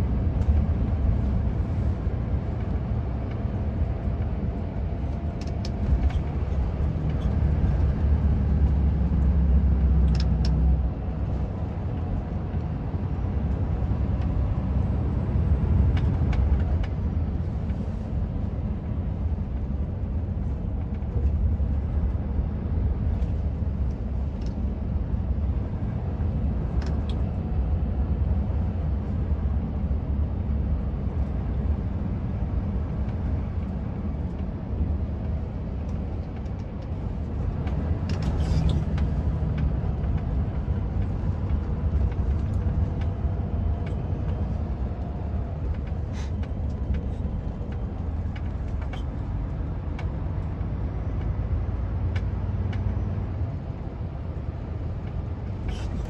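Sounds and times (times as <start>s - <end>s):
vehicle engine and tyre rumble: 0.0s - 56.0s.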